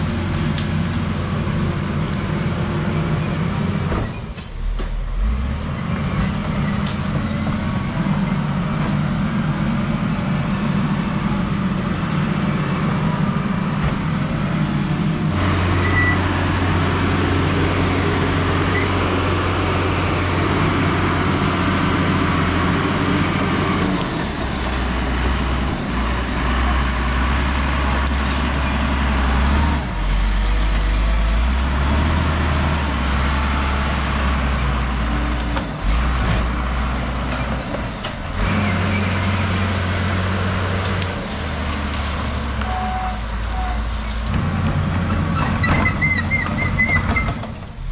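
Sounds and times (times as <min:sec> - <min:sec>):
bulldozer diesel engine under load: 0:00.0 - 0:47.9.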